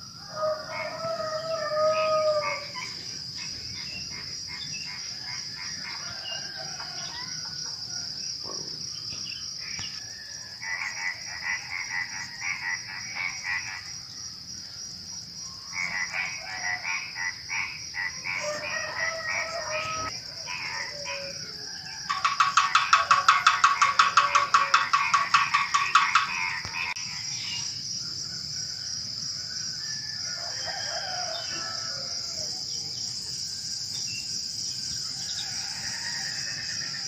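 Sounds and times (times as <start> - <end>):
crickets trilling: 0.0 - 37.0
frogs croaking: 0.0 - 37.0.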